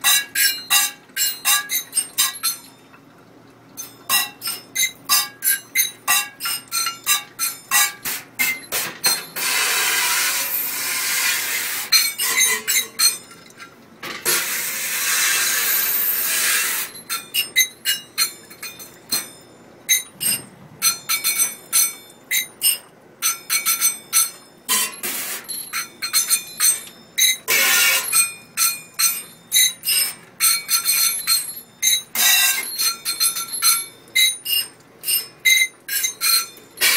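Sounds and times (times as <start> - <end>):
metal cups striking steel sink: 0.0 - 2.8, 3.8 - 15.9, 16.5 - 36.9.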